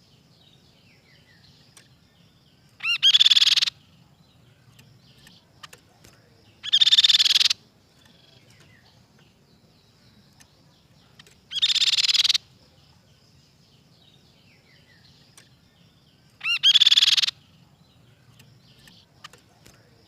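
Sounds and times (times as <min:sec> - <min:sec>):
faint high bird chirps: 0:00.0 - 0:20.0
bird rapid trills: 0:01.2 - 0:12.8, 0:14.0 - 0:20.0.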